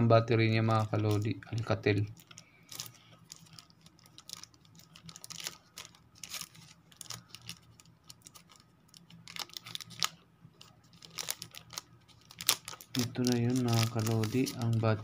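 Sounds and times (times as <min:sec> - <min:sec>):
plastic sleeve crinkling: 0:00.4 - 0:15.0.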